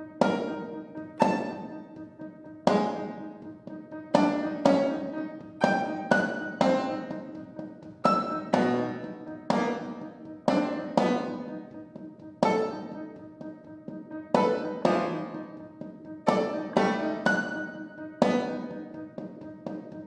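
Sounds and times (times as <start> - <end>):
piano notes and chords: 0.0 - 20.0.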